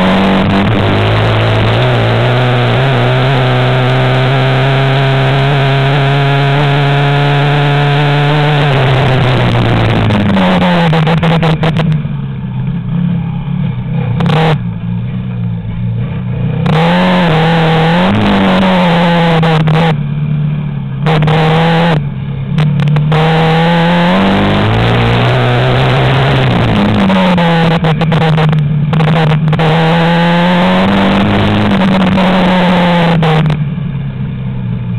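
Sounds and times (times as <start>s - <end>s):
quad bike engine revving: 0.0s - 34.9s.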